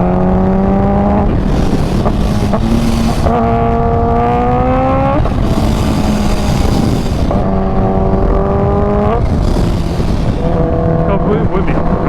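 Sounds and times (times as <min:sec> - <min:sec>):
heavy wind rush: 0:00.0 - 0:12.0
motorcycle engine accelerating: 0:00.0 - 0:12.0.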